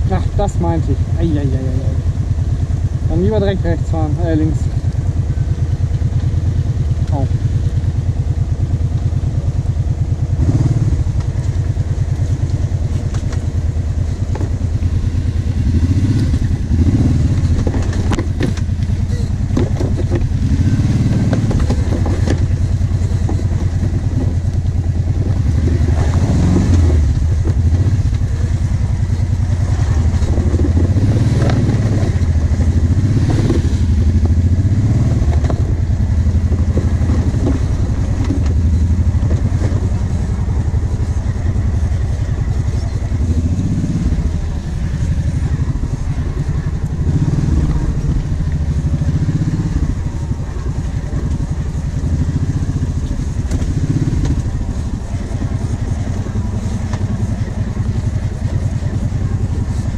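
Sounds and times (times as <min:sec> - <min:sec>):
atv engine revving: 0:00.0 - 0:59.9
clatters over bumps: 0:00.0 - 0:59.9.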